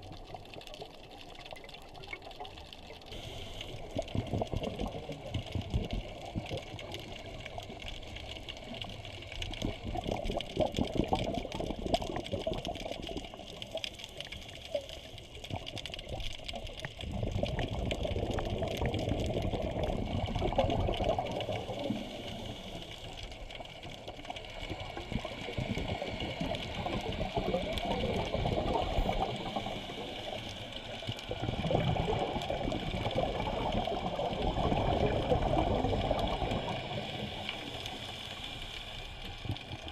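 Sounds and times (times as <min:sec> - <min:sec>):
underwater rushing with crackling: 0:00.0 - 0:39.9.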